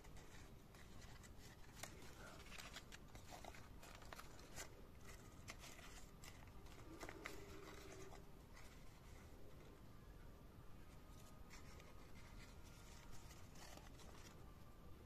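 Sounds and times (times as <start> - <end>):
paper rustling: 0.0 - 9.8, 10.8 - 14.6.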